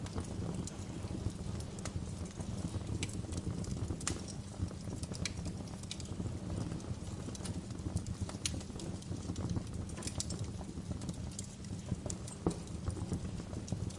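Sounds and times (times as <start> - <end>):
fire popping and snapping: 0.0 - 13.9
low rumble of flames: 0.0 - 13.9.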